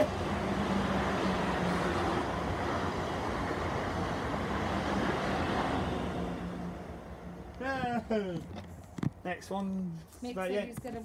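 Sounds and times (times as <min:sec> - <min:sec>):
train wheels rumbling on rail: 0:00.0 - 0:09.2.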